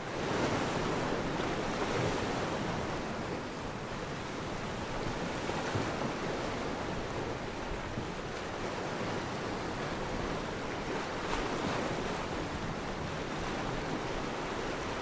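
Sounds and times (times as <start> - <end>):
sea surf washing on beach: 0.0 - 15.0
wind: 0.0 - 15.0.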